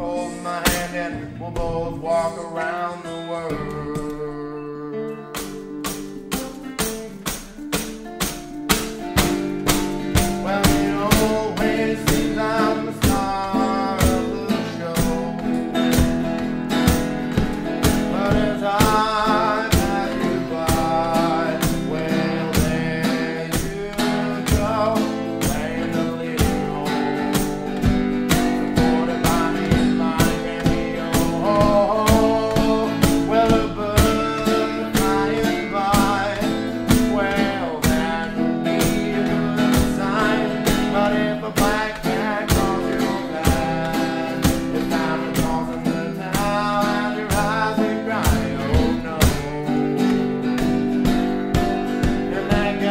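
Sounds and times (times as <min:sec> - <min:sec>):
man singing: 0:00.0 - 0:08.1, 0:08.8 - 0:52.9
acoustic guitar strumming: 0:00.0 - 0:52.9.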